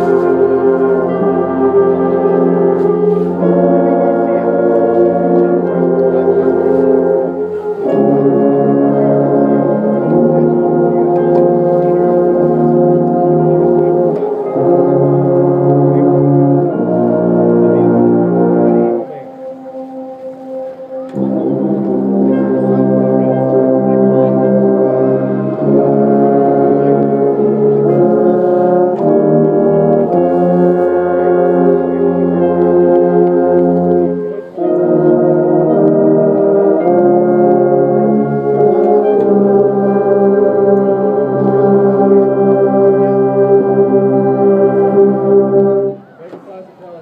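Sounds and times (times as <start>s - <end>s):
brass band playing held chords: 0.0s - 46.8s.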